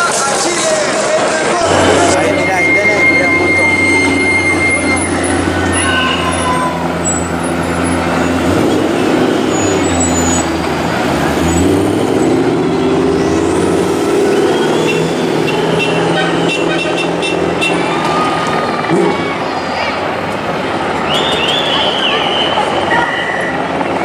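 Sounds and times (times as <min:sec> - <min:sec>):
rally car engines driving past: 0:00.8 - 0:24.0.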